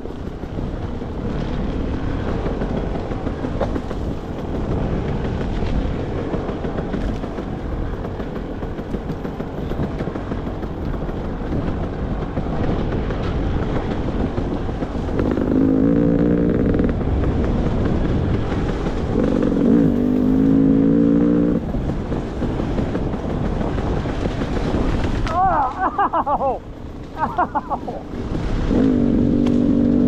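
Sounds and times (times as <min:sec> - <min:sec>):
dirt bike engine: 0:00.0 - 0:30.0
rough riding noise: 0:00.0 - 0:30.0.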